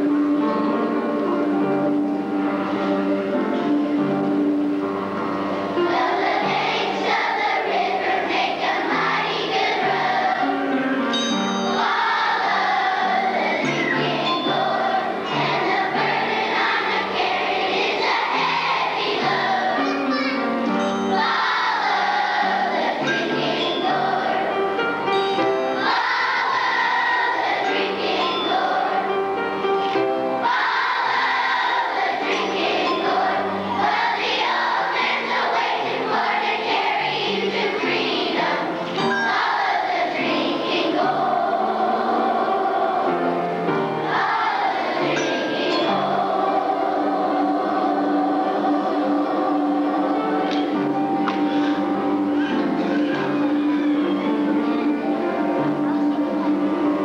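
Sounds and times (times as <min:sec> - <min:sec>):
children's choir singing: 0:00.0 - 0:57.0
instrumental accompaniment: 0:00.0 - 0:57.0.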